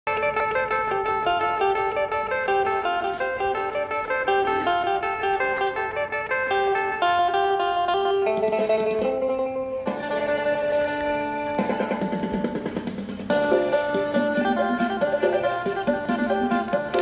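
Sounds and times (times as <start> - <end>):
plucked lute melody: 0.1 - 17.0.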